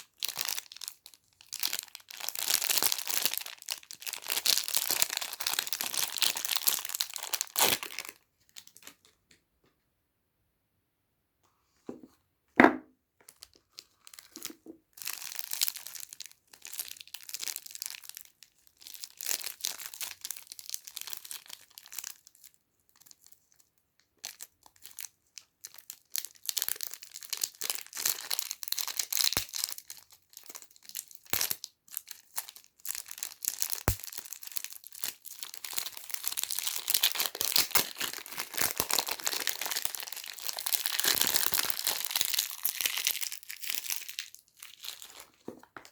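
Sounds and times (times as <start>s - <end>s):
soap wrapping crinkling and tearing: 0.0s - 9.2s, 13.3s - 45.9s.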